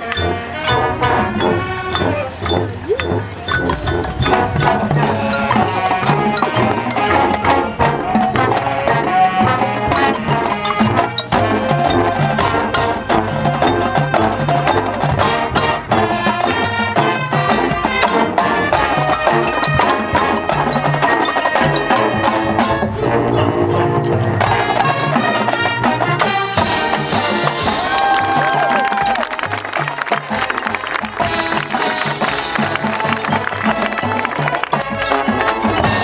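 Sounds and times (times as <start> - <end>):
brass playing tune: 0.0 - 36.0
marching drums beat: 0.0 - 36.0.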